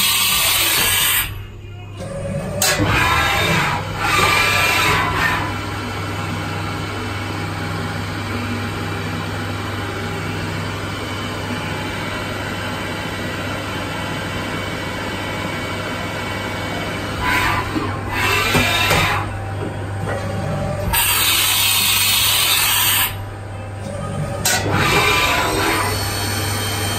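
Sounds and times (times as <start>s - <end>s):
machine hum and whine: 0.0s - 26.9s.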